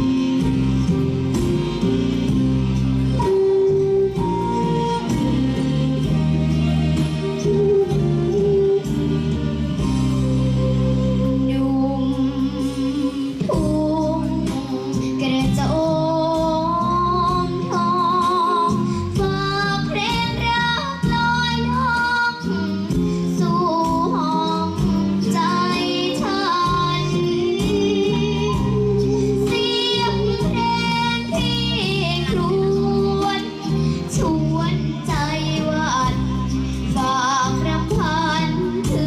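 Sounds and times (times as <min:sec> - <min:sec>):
loud backing music with beat: 0:00.0 - 0:39.0
girl singing into a microphone: 0:03.1 - 0:39.0.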